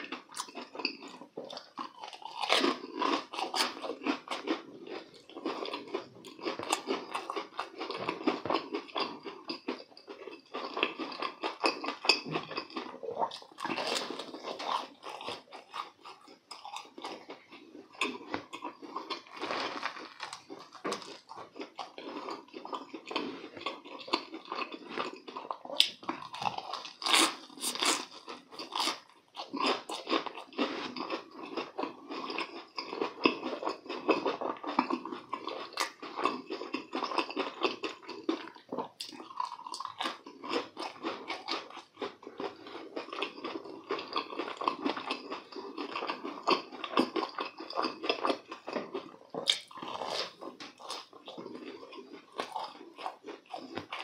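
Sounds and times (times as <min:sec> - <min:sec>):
close crunchy chewing: 0:00.0 - 0:54.0.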